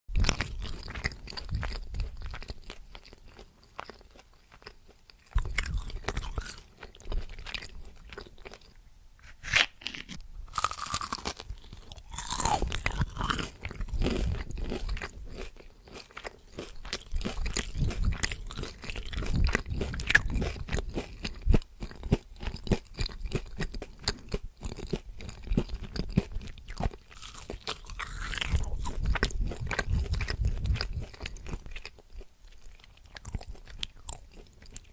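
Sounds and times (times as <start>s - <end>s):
person chewing crunchy food: 0.1s - 34.9s.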